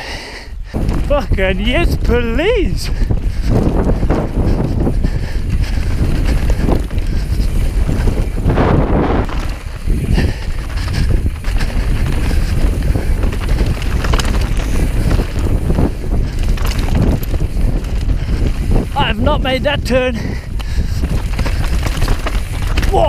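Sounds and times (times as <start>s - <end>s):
bike rattling over rough ground: 0.0s - 23.0s
wind buffeting microphone: 0.0s - 23.0s.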